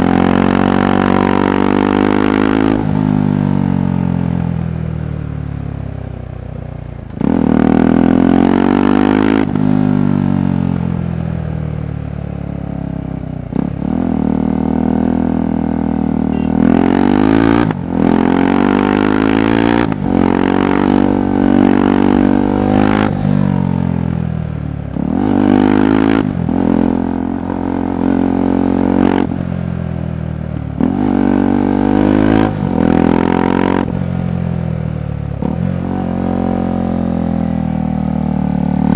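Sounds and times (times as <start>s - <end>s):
motorcycle engine revving: 0.0s - 5.0s, 7.1s - 11.8s, 12.8s - 38.9s.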